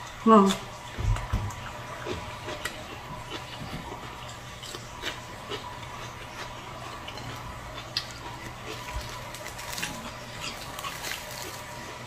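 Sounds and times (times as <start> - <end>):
chewing with mouth clicks: 0.0 - 12.0.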